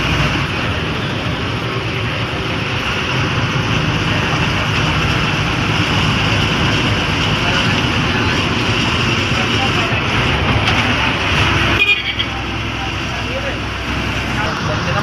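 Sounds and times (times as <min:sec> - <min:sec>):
bus engine drone: 0:00.0 - 0:15.0
road and wind noise: 0:00.0 - 0:15.0.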